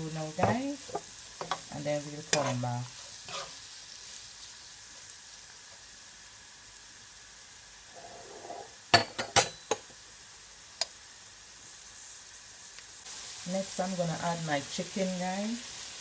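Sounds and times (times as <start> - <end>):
vegetables sizzling in a pot: 0.0 - 16.0.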